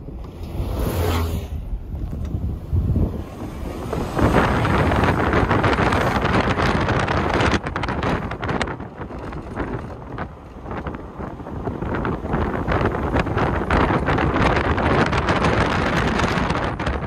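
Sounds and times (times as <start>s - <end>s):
van passing: 0.0s - 16.9s
car rumbling on road: 0.0s - 17.0s
wind rushing over microphone: 0.0s - 17.0s.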